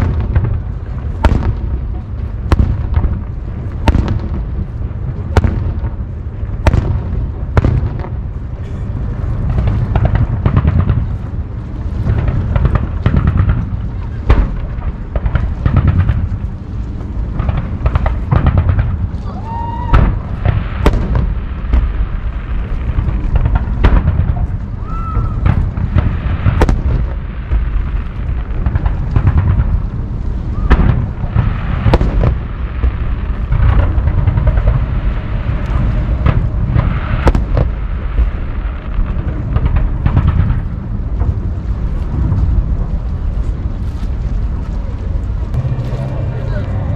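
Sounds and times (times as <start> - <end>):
deep rumble: 0.0 - 46.9.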